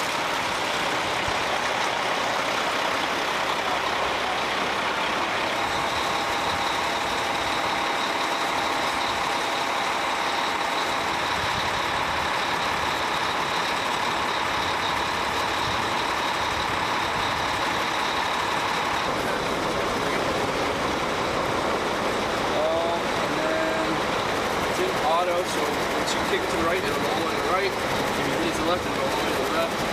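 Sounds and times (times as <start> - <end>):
heavy truck engine drone: 0.0 - 29.9
thin steady whine: 0.0 - 29.9.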